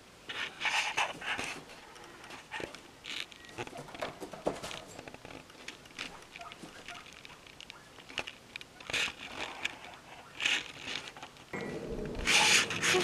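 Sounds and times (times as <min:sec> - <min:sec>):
light crackles: 0:00.0 - 0:13.0.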